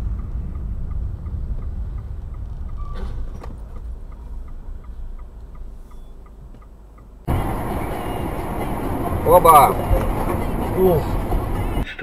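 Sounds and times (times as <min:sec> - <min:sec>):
turn signal ticking: 0:00.0 - 0:11.9
engine and road rumble: 0:00.0 - 0:12.0.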